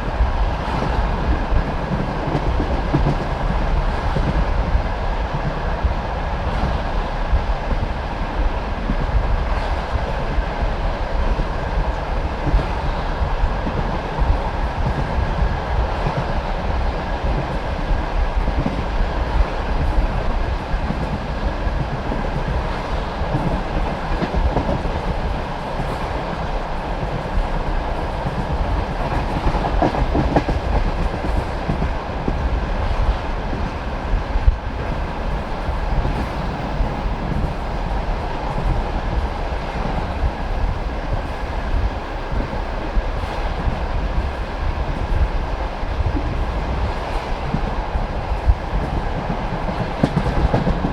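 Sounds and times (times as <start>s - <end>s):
train carriage rumbling: 0.0s - 50.9s.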